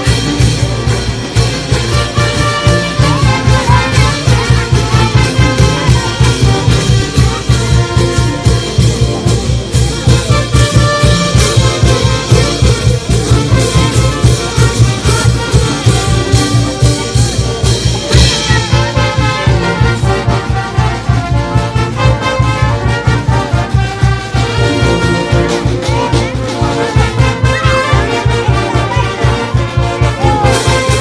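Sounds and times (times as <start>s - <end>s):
trumpets and trombones: 0.0s - 31.0s.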